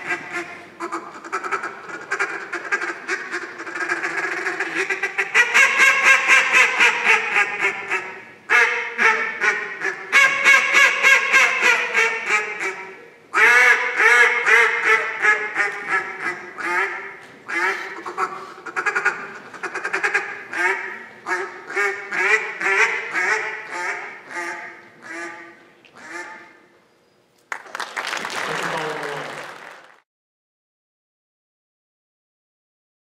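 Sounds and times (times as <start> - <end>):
duck call quacking: 0.0 - 26.7.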